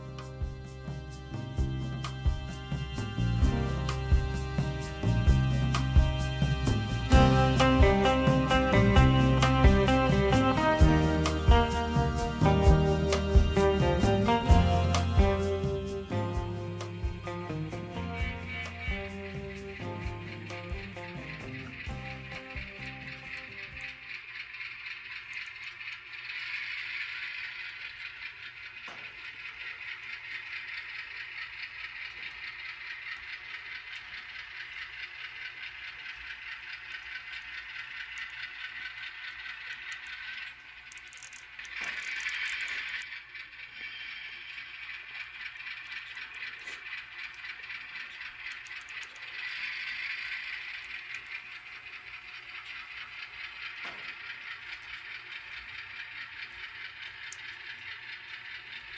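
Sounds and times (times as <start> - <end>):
model train rattling on track: 0.0 - 58.9.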